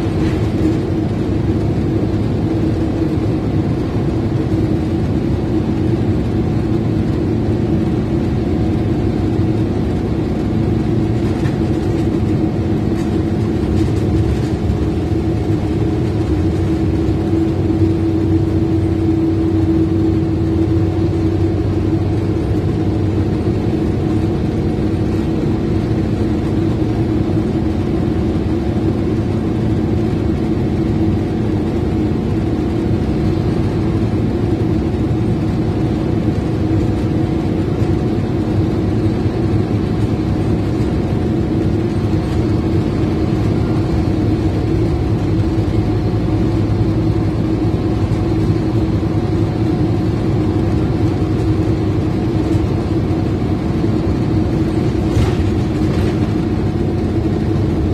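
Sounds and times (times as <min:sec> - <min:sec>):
bus diesel engine humming: 0:00.0 - 0:57.9
road and tyre noise: 0:00.0 - 0:57.9.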